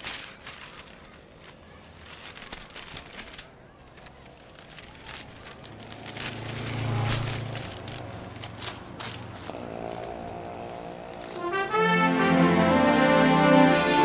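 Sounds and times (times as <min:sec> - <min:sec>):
paper poster rustling and scraping: 0:00.0 - 0:11.7
faint music: 0:00.0 - 0:14.0.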